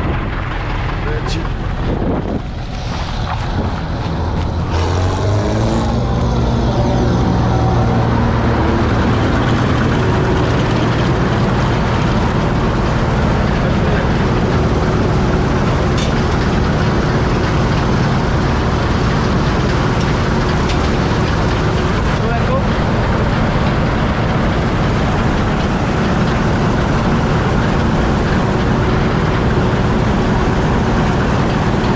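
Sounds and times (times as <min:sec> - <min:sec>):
farm machine engine rumbling: 0:00.0 - 0:31.9.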